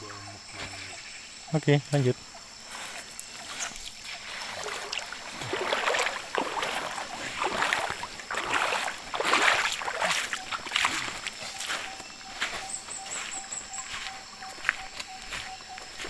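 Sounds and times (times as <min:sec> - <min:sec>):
footsteps on gravel: 0:02.7 - 0:16.0.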